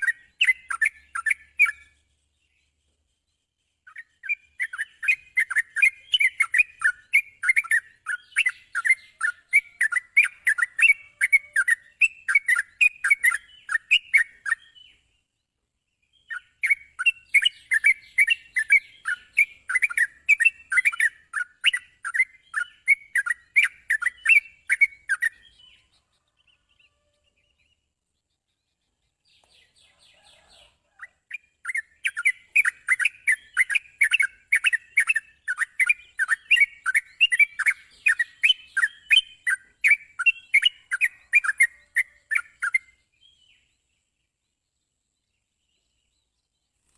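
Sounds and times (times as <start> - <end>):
bird chirping song: 0.0 - 46.9.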